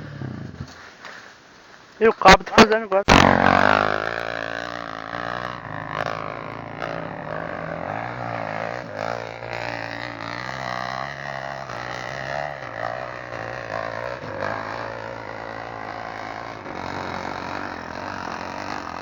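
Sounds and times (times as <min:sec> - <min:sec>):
motorcycle engine running: 0:03.1 - 0:19.0.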